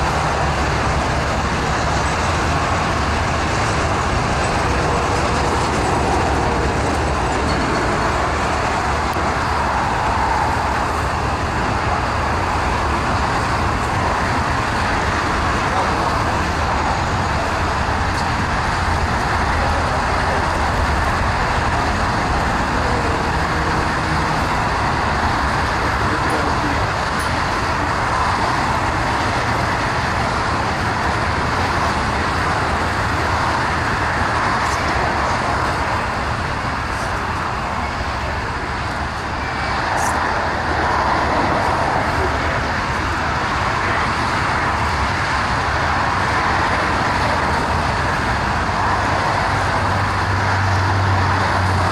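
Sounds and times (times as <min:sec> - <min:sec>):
jet engines running: 0:00.0 - 0:51.9.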